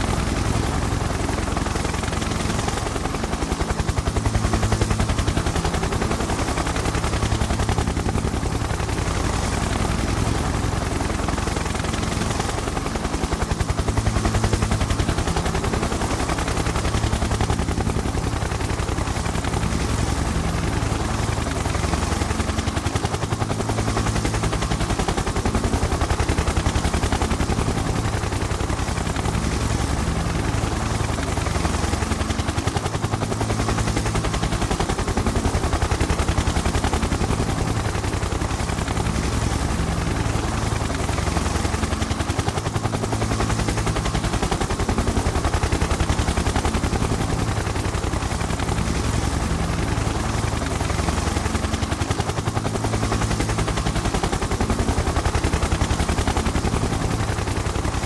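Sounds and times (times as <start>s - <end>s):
helicopter rotor chopping: 0.0s - 58.0s
low engine drone: 0.0s - 58.0s.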